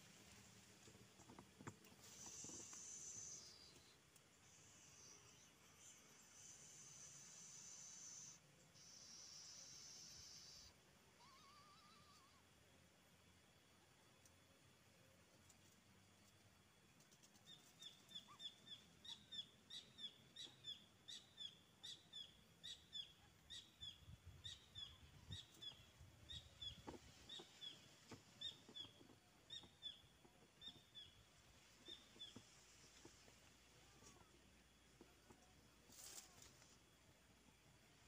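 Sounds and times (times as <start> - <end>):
bird chirping faintly: 0.0 - 12.4, 17.0 - 38.0.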